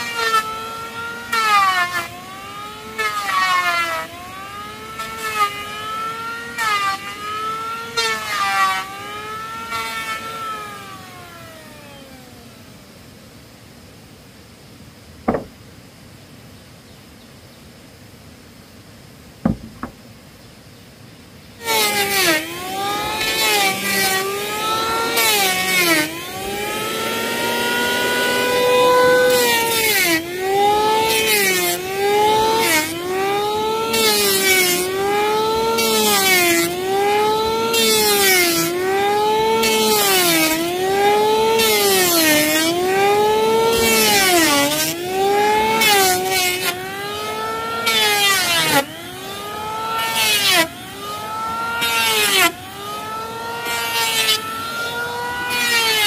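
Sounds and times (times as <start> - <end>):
electric planer shaving wood: 0.0 - 12.7, 21.6 - 56.0.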